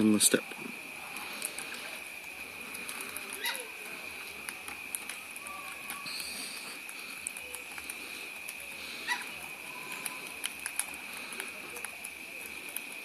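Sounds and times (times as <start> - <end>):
steady high-pitched hum: 0.0 - 13.0
small birds chirping: 0.8 - 13.0.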